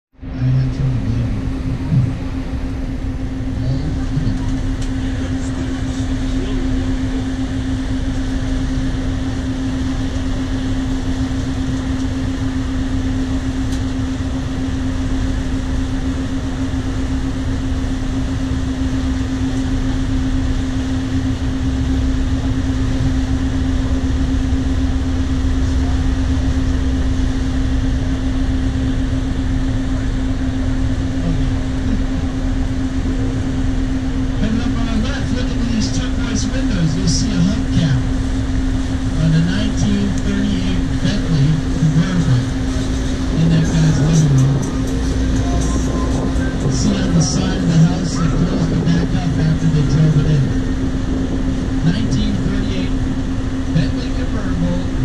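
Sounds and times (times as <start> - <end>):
boat engine humming: 0.1 - 55.0
wind: 0.1 - 55.0
water noise: 0.4 - 55.0.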